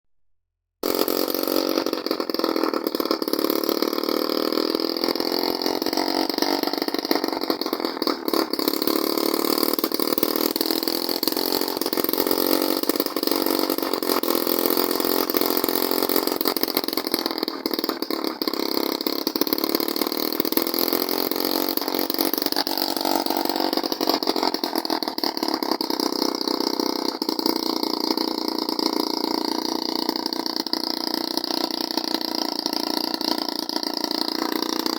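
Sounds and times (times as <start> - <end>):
small two-stroke engine running: 0.8 - 34.9.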